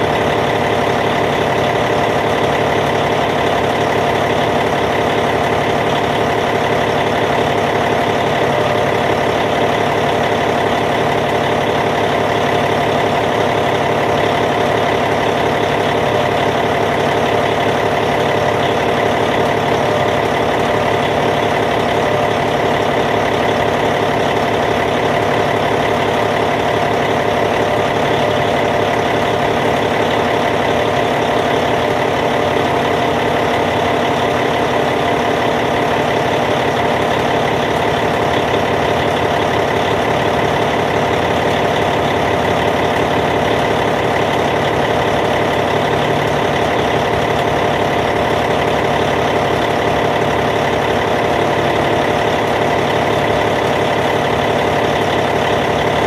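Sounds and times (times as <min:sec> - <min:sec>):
diesel bulldozer engine idling: 0:00.0 - 0:56.0.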